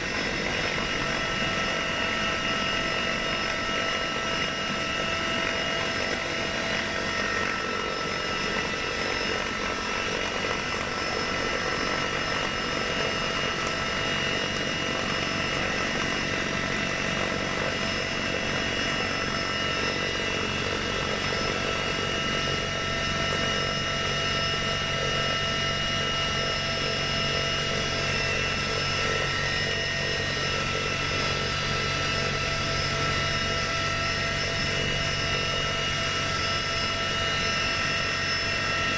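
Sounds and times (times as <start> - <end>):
aircraft engines running: 0.0 - 38.9.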